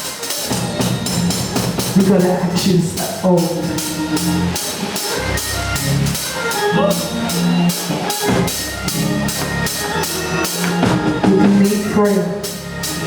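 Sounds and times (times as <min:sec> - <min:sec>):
steady drum beat: 0:00.0 - 0:13.0
held low notes: 0:00.5 - 0:13.0.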